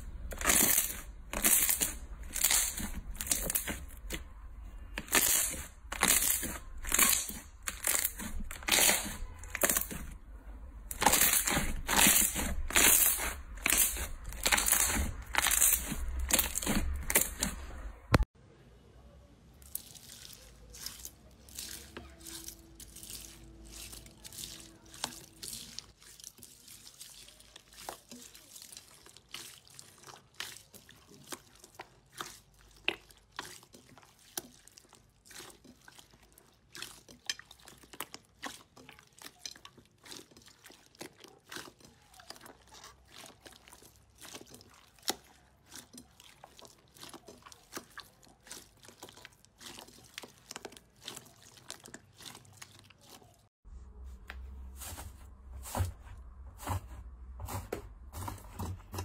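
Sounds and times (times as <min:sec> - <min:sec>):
slime squishing and popping: 0:00.0 - 0:10.2, 0:10.8 - 0:18.3, 0:19.6 - 0:53.4.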